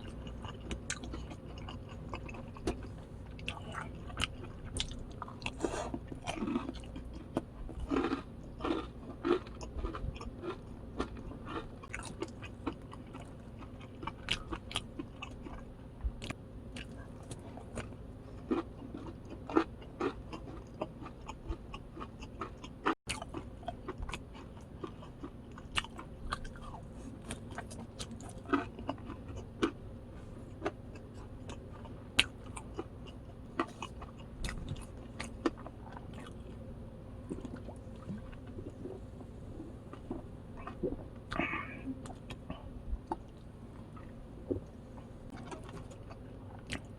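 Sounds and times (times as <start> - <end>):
chewing crispy chicken: 0.0 - 36.6, 37.2 - 44.7, 45.3 - 46.9.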